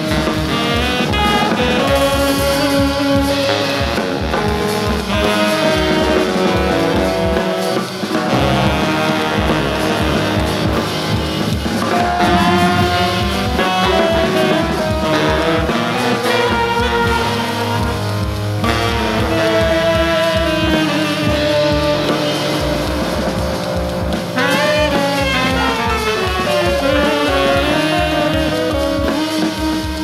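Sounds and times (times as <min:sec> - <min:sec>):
jazz band playing swing: 0:00.0 - 0:30.0.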